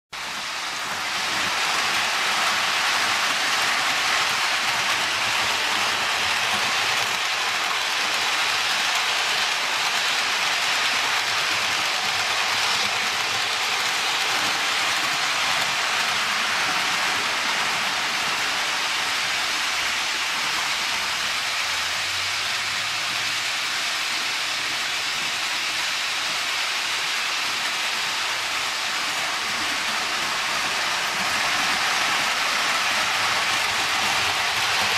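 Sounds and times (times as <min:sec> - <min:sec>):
model trains running on metal track: 0:00.2 - 0:34.9.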